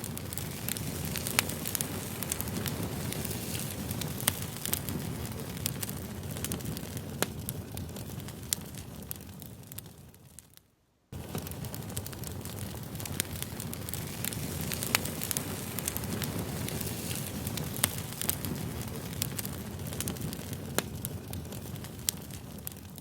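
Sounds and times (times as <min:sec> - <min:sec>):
campfire flame rushing: 0:00.0 - 0:10.6, 0:11.2 - 0:23.0
fire crackling and popping: 0:00.0 - 0:23.0.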